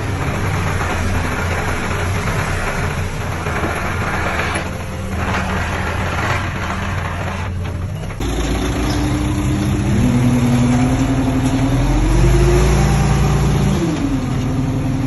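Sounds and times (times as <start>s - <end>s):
heavy diesel engine running hard: 0.0s - 15.0s.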